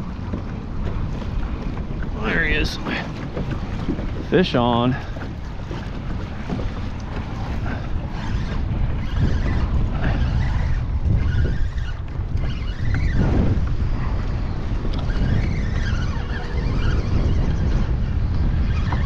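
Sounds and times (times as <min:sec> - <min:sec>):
water lapping against hull: 0:00.0 - 0:19.0
wind buffeting microphone: 0:00.0 - 0:19.0.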